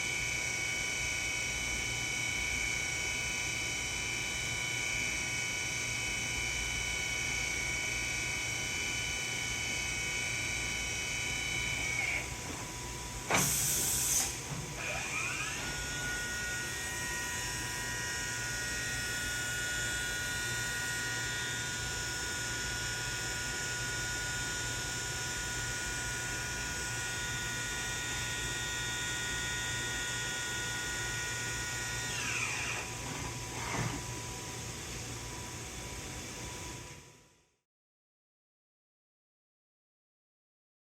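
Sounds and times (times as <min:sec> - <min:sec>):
machine spindle whine: 0:00.1 - 0:34.8.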